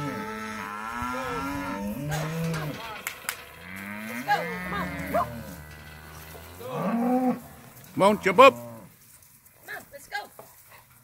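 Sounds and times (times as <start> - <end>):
cattle bawling: 0.0 - 8.9.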